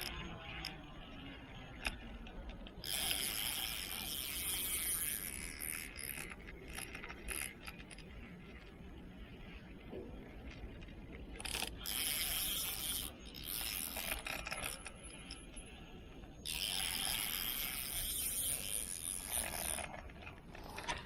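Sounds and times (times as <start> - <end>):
fishing reel ratchet clicking: 0.0 - 0.8, 1.7 - 8.3, 11.3 - 21.0.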